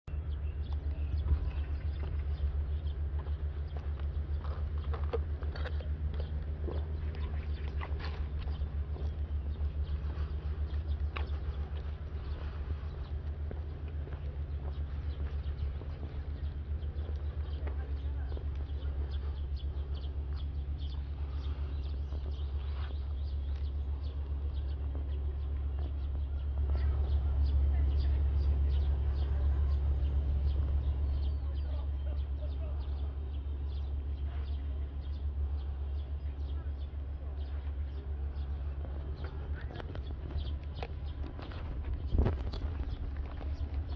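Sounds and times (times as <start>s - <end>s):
wind rumble on microphone: 0.1s - 31.4s, 37.4s - 43.9s
footsteps on wooden boardwalk: 0.2s - 43.9s.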